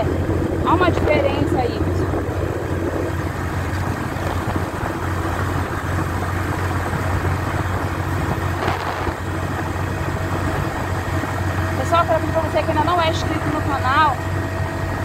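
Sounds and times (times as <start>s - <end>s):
wind noise on microphone: 0.0s - 12.4s
motorcycle engine running: 0.0s - 15.0s.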